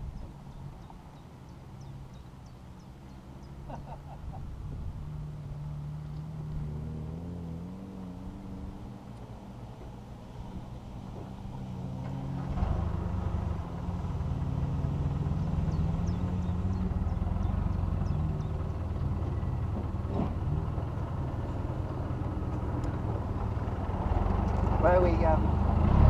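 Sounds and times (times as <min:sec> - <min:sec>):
off-road engine running: 0:00.0 - 0:26.0.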